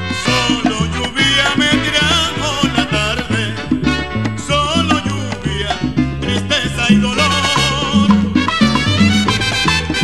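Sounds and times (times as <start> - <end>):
salsa music: 0.0 - 10.0.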